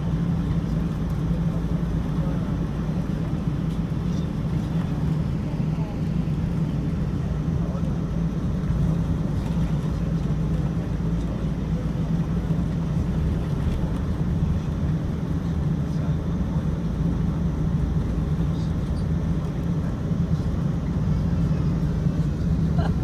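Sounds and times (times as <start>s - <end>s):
aircraft cabin drone: 0.0s - 23.0s.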